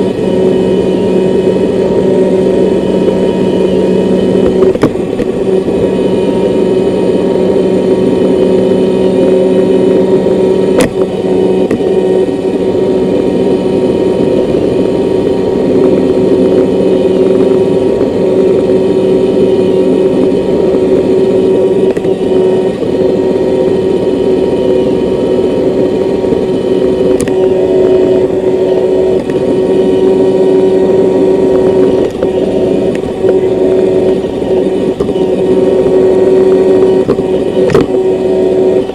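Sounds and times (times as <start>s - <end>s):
robot vacuum whirring hum: 0.0s - 38.9s.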